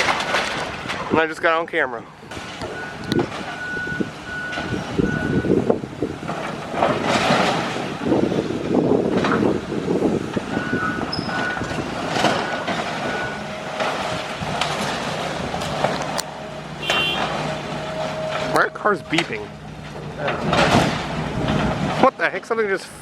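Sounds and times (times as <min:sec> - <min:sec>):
debris crunching and clanking: 0:00.0 - 0:23.0.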